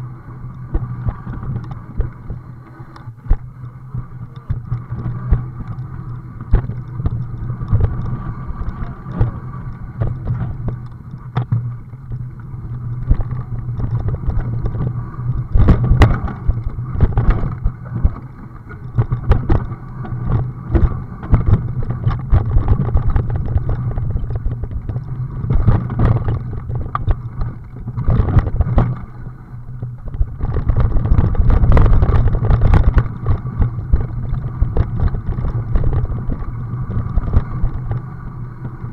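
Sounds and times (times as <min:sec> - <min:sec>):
bike rattling over rough dirt trail: 0:00.0 - 0:38.9
steady low hum: 0:00.0 - 0:38.9.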